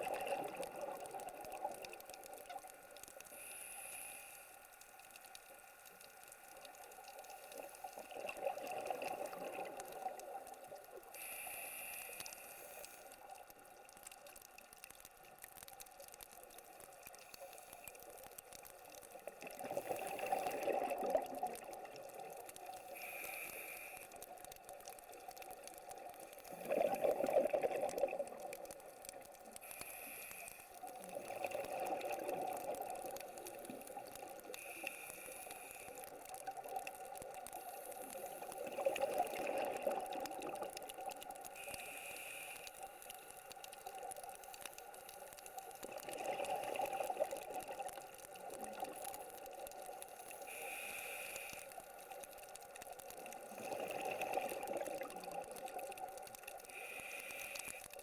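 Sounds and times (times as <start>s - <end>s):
scuba diver breathing underwater: 0.0s - 4.9s, 7.3s - 13.3s, 17.2s - 24.9s, 26.0s - 58.0s.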